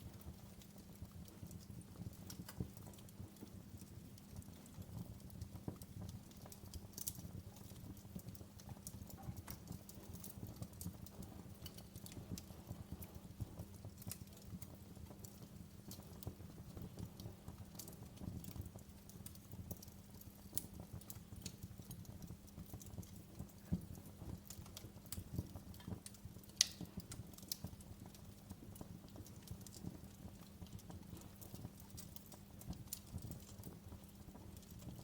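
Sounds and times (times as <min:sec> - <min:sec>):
fireplace fire crackling: 0:00.0 - 0:35.0.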